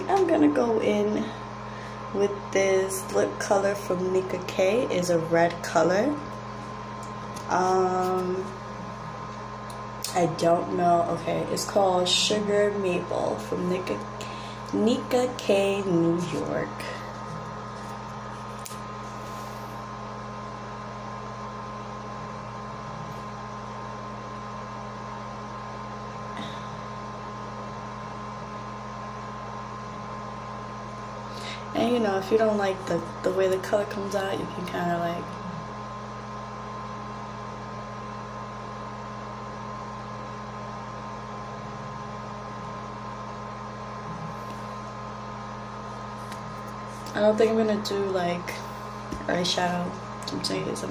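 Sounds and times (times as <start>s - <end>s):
fan humming with hiss and whine: 0.0s - 50.9s.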